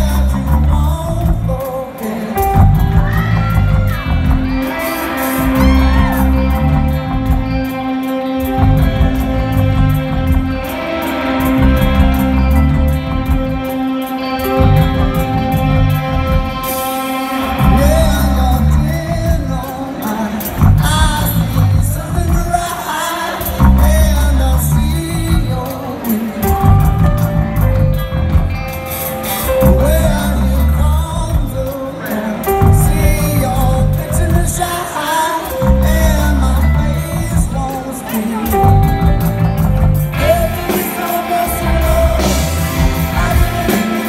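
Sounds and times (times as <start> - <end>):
man singing: 0.0 - 27.8, 29.3 - 44.0
drums: 0.0 - 44.0
electric guitars: 0.0 - 44.0.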